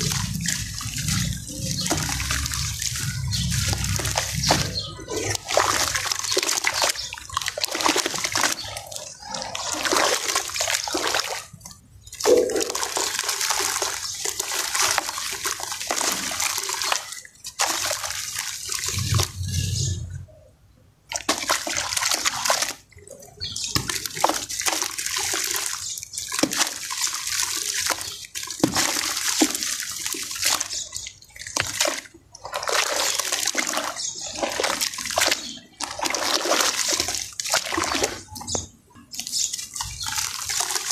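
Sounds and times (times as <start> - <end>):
hands splashing water in a tub: 0.0 - 20.0, 21.1 - 40.9.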